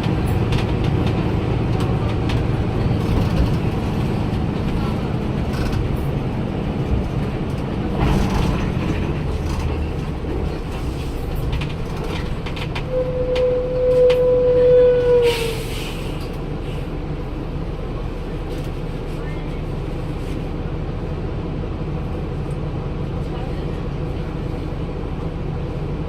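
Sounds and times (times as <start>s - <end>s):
bus diesel engine running: 0.0s - 14.6s, 15.2s - 26.0s.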